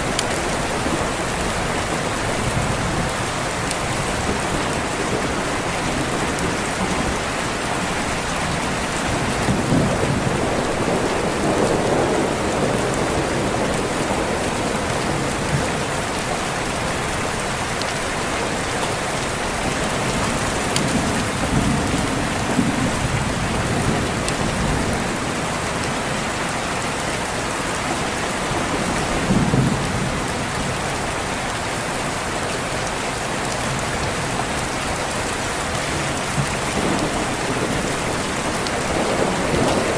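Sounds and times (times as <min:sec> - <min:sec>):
thunder rumbling: 0:00.0 - 0:18.2, 0:18.8 - 0:26.2, 0:28.2 - 0:31.2, 0:33.8 - 0:39.9
steady rain: 0:00.0 - 0:39.9.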